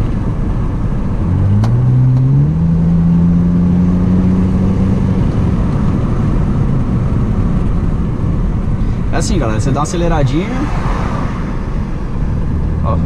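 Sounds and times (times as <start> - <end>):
car engine and exhaust accelerating: 0.0 - 13.0
road noise: 0.0 - 13.0.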